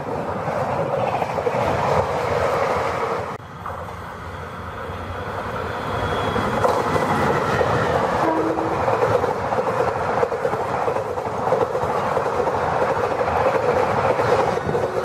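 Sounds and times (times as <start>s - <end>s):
clickety-clack of wheels on rails: 0.0s - 15.0s
passenger train passing: 0.0s - 15.0s.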